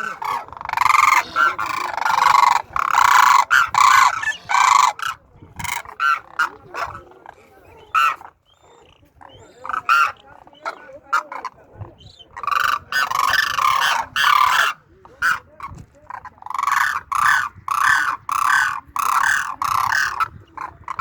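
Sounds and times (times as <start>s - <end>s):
cranes calling: 0.0s - 21.0s.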